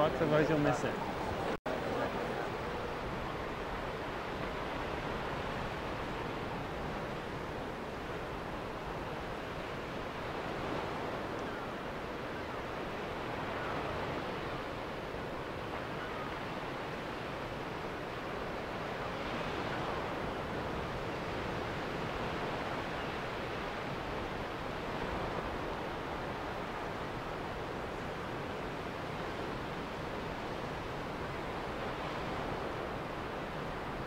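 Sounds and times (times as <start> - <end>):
ocean surf on rocky shore: 0.0 - 34.0
wind: 0.0 - 34.0.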